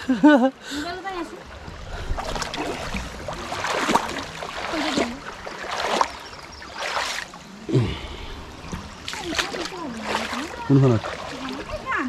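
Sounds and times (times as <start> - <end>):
water sloshing in stream: 0.8 - 12.0.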